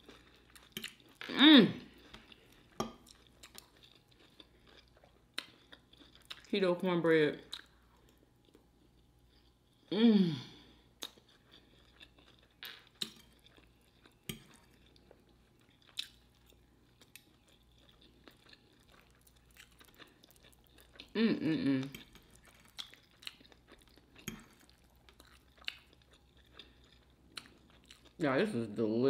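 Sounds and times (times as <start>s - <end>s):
chewing and eating: 0.0s - 1.3s, 1.9s - 6.5s, 7.4s - 9.9s, 10.8s - 21.2s, 21.8s - 28.2s.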